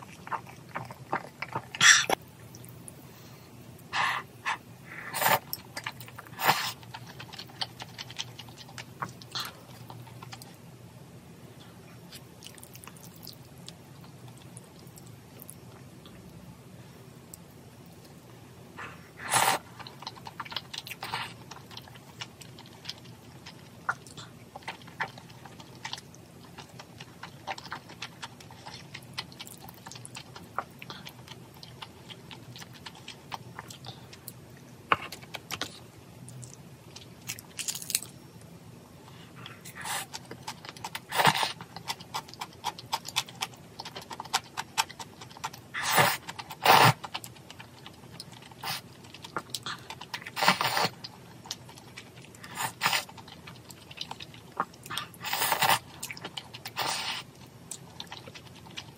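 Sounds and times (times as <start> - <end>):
person chewing: 0.0 - 2.9, 4.0 - 10.6, 12.0 - 16.4, 18.8 - 38.1, 39.1 - 58.9.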